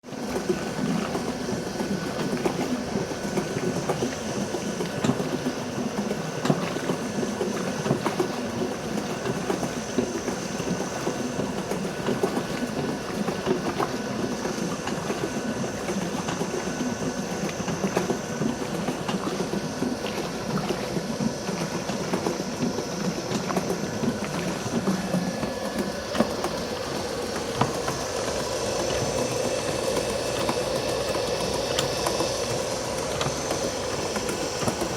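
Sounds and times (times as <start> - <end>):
washing machine motor running: 0.0 - 34.9
agitator clattering clicks and knocks: 0.3 - 34.9.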